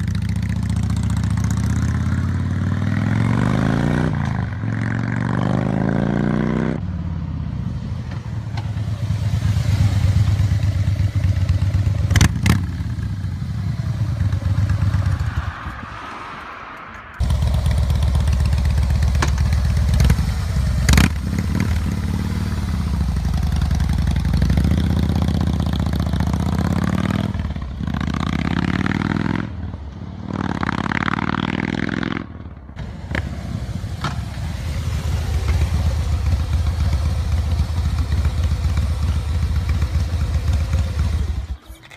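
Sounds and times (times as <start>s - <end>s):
motorcycle engines rumbling: 0.0s - 41.9s.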